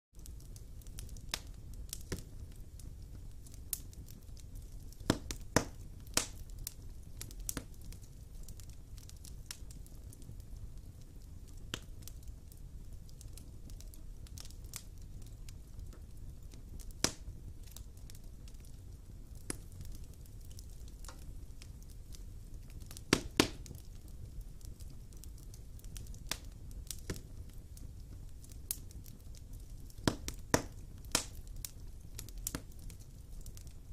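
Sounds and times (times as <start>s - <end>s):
low steady fire rumble: 0.2s - 33.9s
wood fire crackling and popping: 0.2s - 33.9s.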